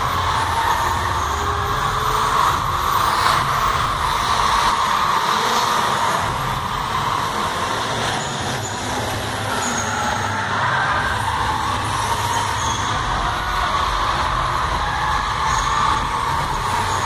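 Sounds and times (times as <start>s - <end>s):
car engines racing: 0.0s - 17.0s.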